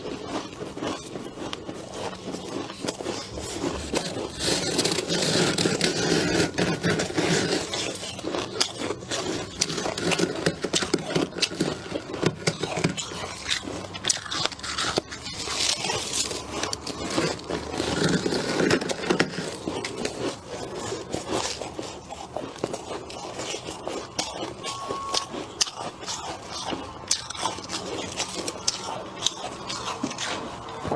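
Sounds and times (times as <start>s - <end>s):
frost being scraped and crunched: 0.0s - 30.9s.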